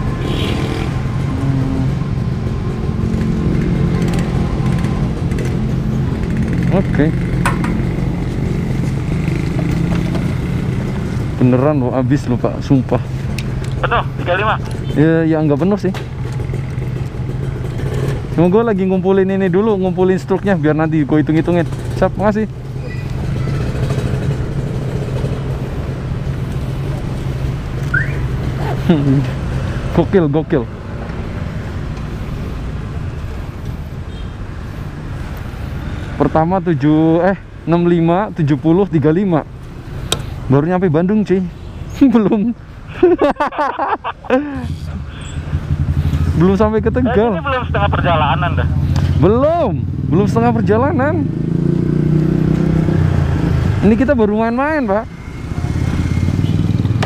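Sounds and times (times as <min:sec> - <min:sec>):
vehicle engines idling: 0:00.9 - 0:51.3.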